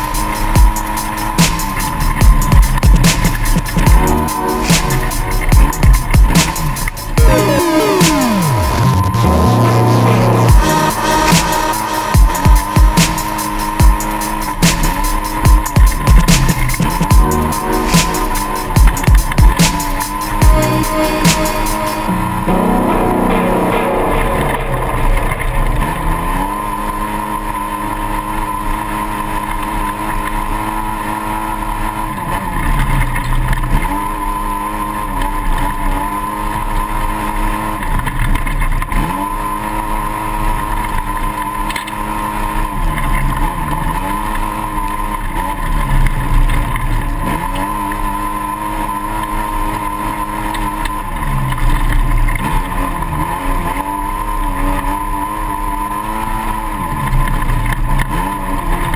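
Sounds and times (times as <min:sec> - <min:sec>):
off-road vehicle engine running hard: 0:00.0 - 0:58.9.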